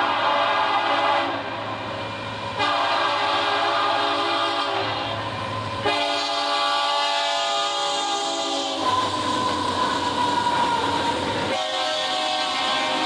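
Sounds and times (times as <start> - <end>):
train air horn: 0.0 - 1.5, 2.6 - 5.2, 5.8 - 13.0.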